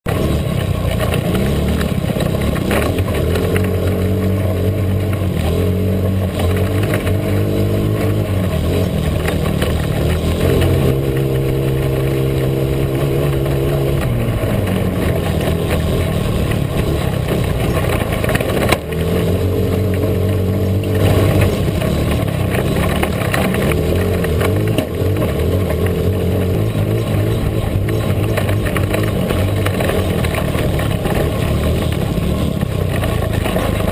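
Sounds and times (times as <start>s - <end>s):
off-road vehicle engine: 0.0s - 33.9s
vehicle rattling: 0.0s - 33.9s.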